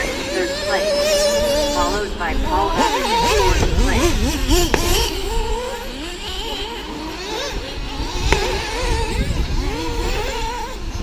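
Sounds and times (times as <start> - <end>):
model racing car motors: 0.0 - 11.0.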